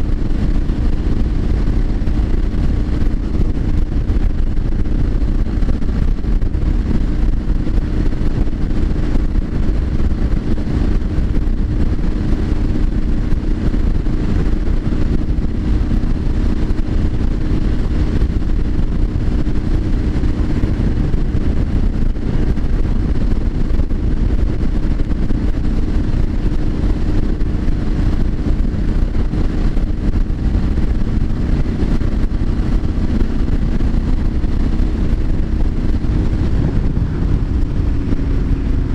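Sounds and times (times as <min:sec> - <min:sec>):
motorcycle engine cruising: 0:00.0 - 0:38.9
wind rumble on microphone: 0:00.0 - 0:38.9.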